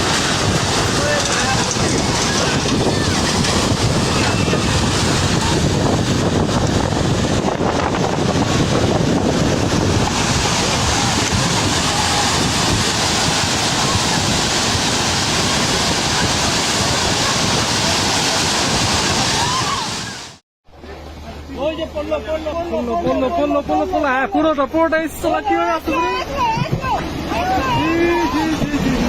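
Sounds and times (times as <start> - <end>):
wind buffeting microphone: 0.0 - 20.3, 25.5 - 29.0
rushing wind: 0.0 - 20.4, 23.6 - 29.0
rushing water: 0.0 - 29.0.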